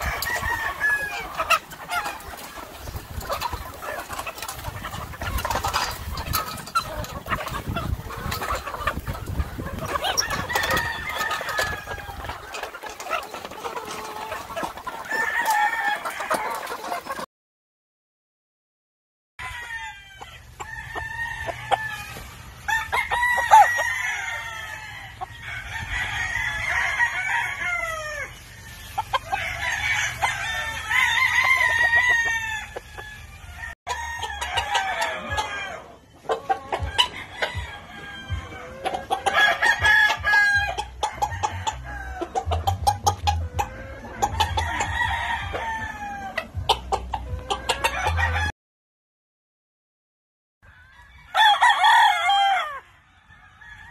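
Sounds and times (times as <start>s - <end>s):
roosters crowing: 0.0s - 17.0s, 19.4s - 46.7s, 47.3s - 48.5s, 50.6s - 53.9s.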